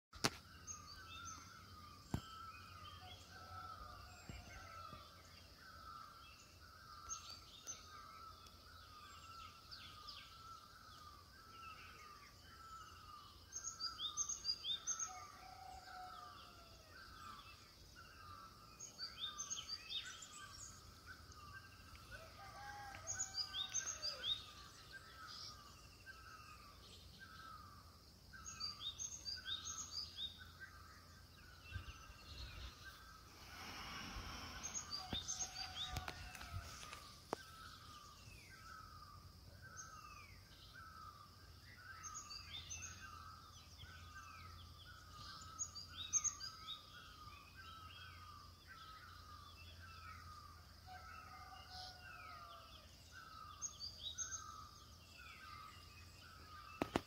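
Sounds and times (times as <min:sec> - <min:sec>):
lower bird calls: 0:00.2 - 0:57.0.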